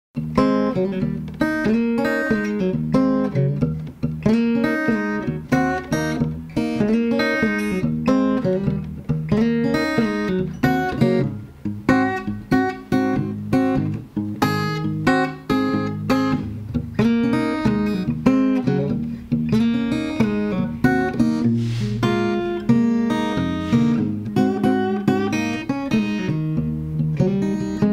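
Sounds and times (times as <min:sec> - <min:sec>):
acoustic guitar playing: 0:00.2 - 0:27.9.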